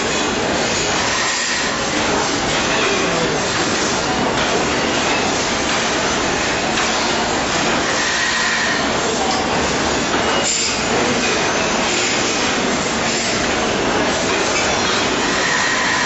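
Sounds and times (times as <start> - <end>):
machinery and cooling fans: 0.0 - 16.0.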